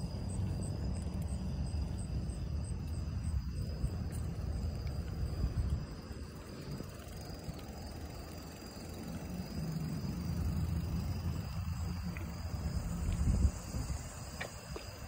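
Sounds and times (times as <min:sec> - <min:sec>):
bicycle tyres and wind rumble: 0:00.0 - 0:15.0
crickets trilling: 0:00.0 - 0:15.0.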